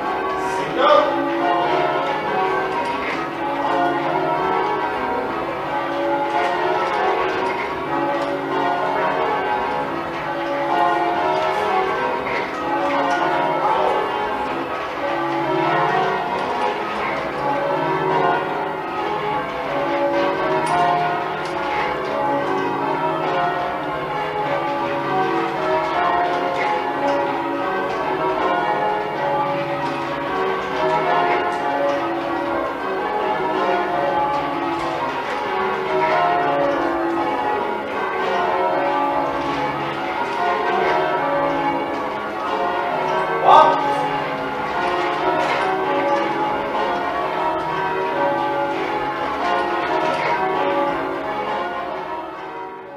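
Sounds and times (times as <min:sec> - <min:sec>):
church bells ringing: 0:00.0 - 0:52.9.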